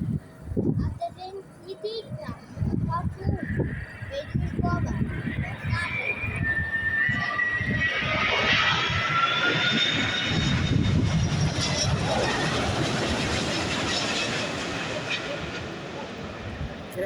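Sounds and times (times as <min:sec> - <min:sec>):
jet engines roaring and whining: 0:00.0 - 0:17.0.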